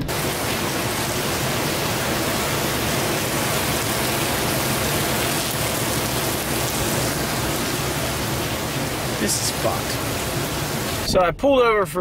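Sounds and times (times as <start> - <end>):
heavy rain pouring: 0.0 - 11.2
wind blowing: 0.1 - 11.1.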